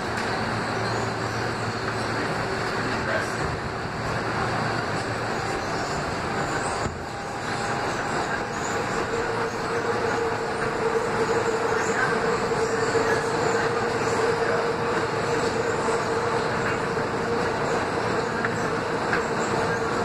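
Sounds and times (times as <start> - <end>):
steady humming tone: 0.0 - 20.0
subway train rumbling in tunnel: 0.0 - 20.0.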